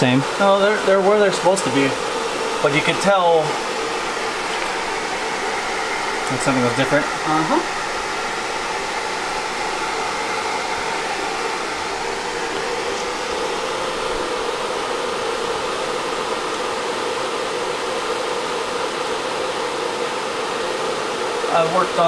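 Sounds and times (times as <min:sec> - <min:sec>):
fan running steadily: 0:00.0 - 0:22.0.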